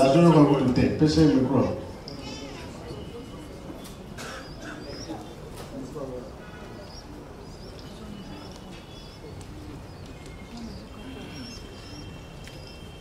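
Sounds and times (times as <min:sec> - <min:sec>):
birds chirping: 0:00.0 - 0:13.0
murmur of voices: 0:00.0 - 0:13.0.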